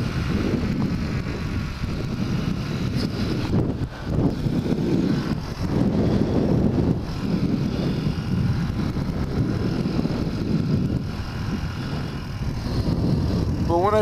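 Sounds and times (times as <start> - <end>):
motorbike engine running: 0.0 - 14.0
wind on microphone: 0.0 - 14.0.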